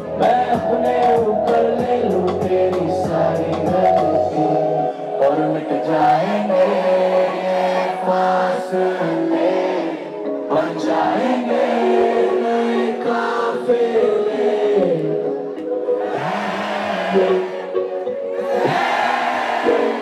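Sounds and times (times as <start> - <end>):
loud concert music over pa: 0.0 - 20.0
voices singing: 0.2 - 20.0.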